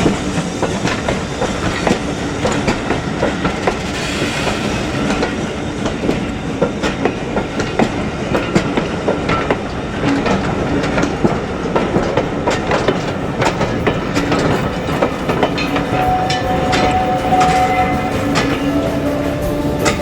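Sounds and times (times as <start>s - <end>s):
train wheels clacking over rail joints: 0.0s - 20.0s.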